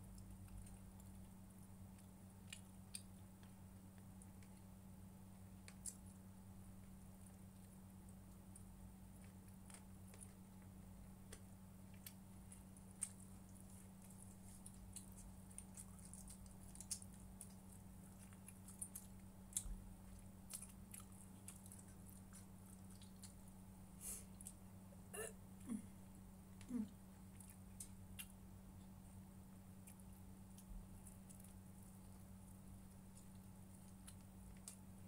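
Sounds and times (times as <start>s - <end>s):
low electrical hum: 0.0s - 35.0s
chewing: 0.2s - 4.7s, 5.3s - 6.2s, 6.8s - 23.6s, 26.7s - 28.9s, 29.8s - 35.0s.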